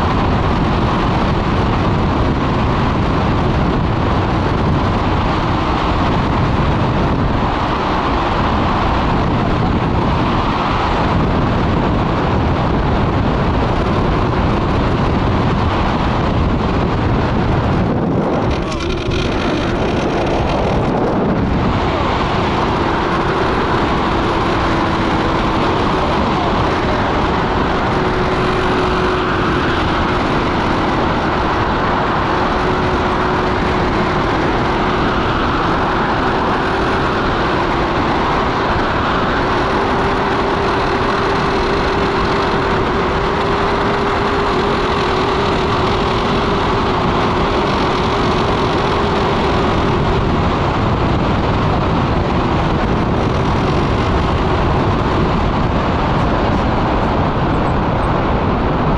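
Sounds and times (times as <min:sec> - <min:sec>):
wind on microphone: 0:00.0 - 0:58.9.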